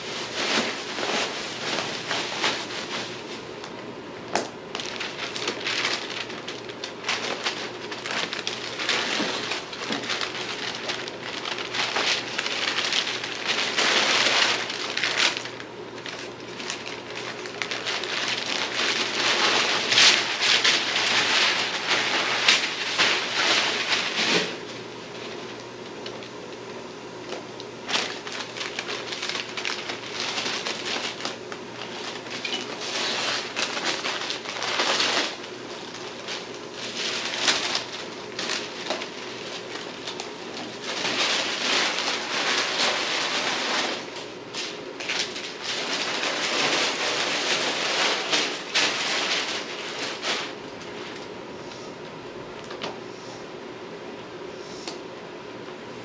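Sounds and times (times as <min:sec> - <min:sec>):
paper crinkling and tearing: 0:00.0 - 0:03.5, 0:04.7 - 0:26.4, 0:27.8 - 0:51.3.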